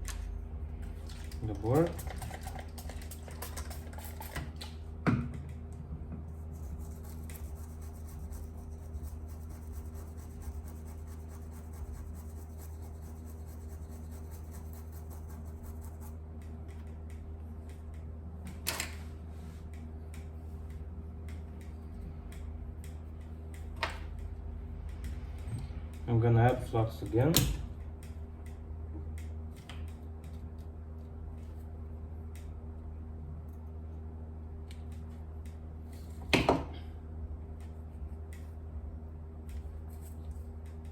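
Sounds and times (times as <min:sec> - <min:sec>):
low electrical hum: 0:00.0 - 0:40.9.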